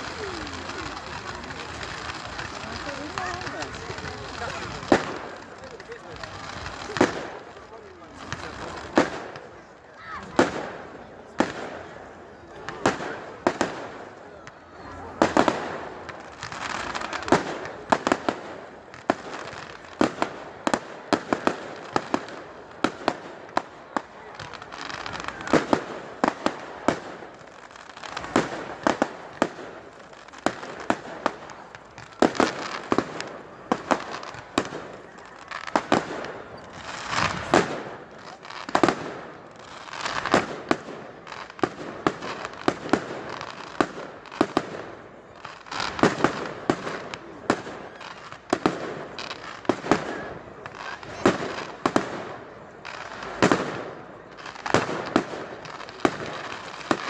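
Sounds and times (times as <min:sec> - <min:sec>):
continuous crackling: 0:00.0 - 0:57.0
fireworks cracking and banging: 0:00.0 - 0:57.0.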